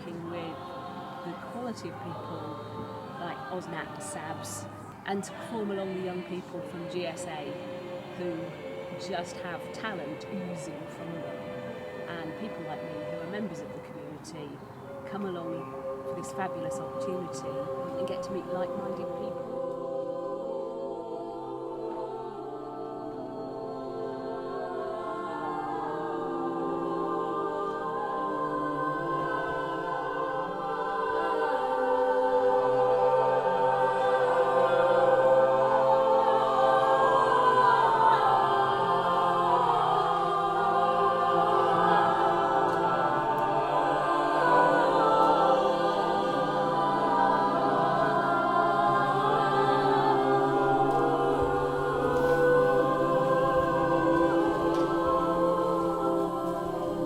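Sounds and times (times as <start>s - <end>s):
choir singing chords: 0.0s - 57.0s.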